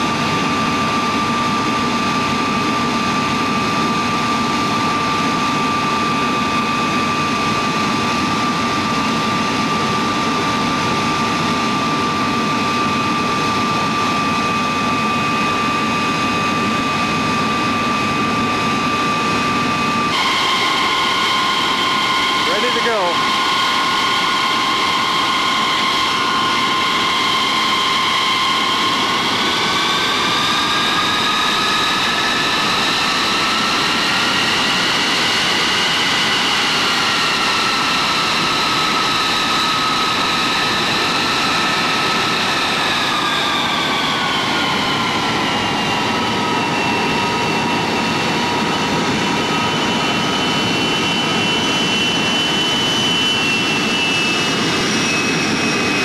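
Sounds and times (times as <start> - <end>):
jet engine whine: 0.0 - 56.0.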